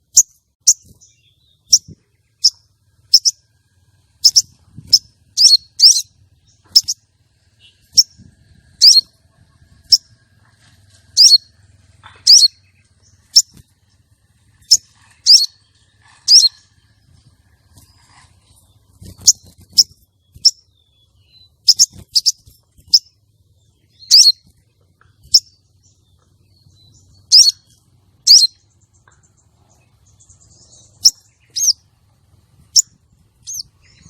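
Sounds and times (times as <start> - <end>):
bird high chirps: 0.0 - 10.2, 11.1 - 13.9, 14.5 - 34.0.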